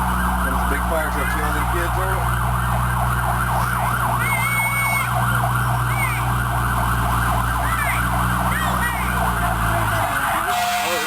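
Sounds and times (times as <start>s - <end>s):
fire truck siren yelping: 0.0s - 11.0s
truck engine rumble: 0.0s - 11.0s.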